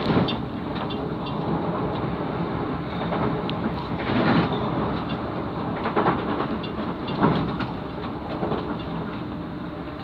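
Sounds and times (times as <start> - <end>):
train wheel clatters: 0.0 - 2.1, 2.8 - 10.0
train wheels rumbling on track: 0.0 - 10.0.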